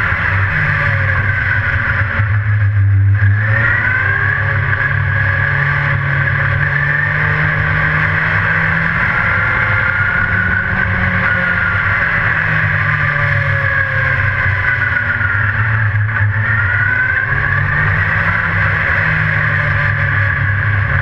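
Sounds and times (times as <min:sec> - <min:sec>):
race car engine running loud: 0:00.0 - 0:21.0.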